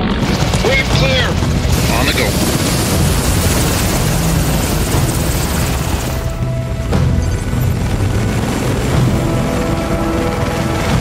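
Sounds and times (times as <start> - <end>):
background music: 0.0 - 11.0
helicopter rotors and turbines: 0.0 - 11.0.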